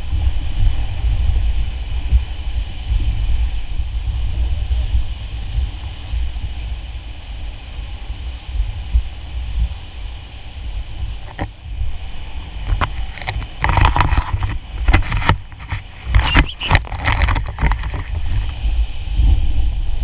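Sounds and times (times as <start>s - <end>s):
rushing whitewater: 0.0s - 20.0s.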